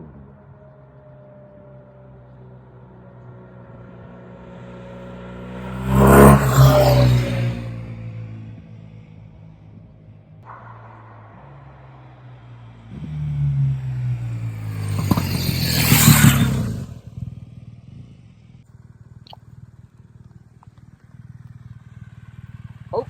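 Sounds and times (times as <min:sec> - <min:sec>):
motorcycle riding past: 0:00.0 - 0:23.0.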